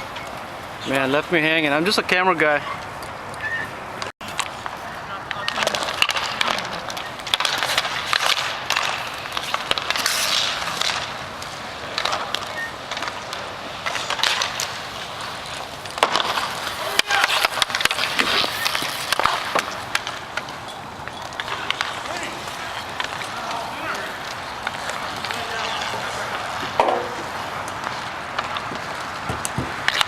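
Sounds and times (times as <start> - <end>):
skates scraping on rink: 0.0 - 30.0
sticks and puck clacking: 0.0 - 30.0.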